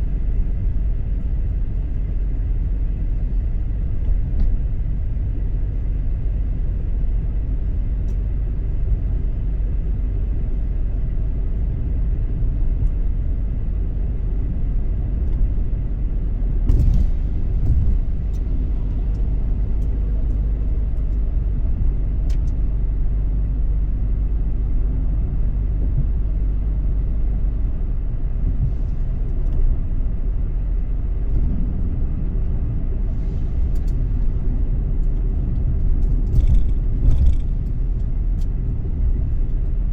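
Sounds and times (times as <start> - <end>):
car driving on road rumble: 0.0 - 39.9.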